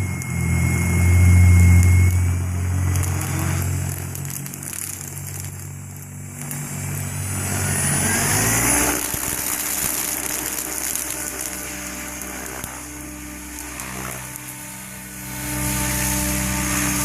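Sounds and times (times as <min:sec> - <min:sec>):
electric motor whine: 0:00.0 - 0:17.0
helicopter rotor beating: 0:00.0 - 0:17.0
rushing blade noise: 0:00.0 - 0:17.0.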